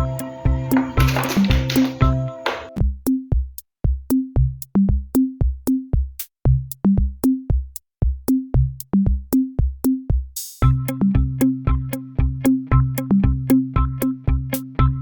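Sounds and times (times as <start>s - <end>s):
electronic drum-machine beat: 0.0s - 14.8s.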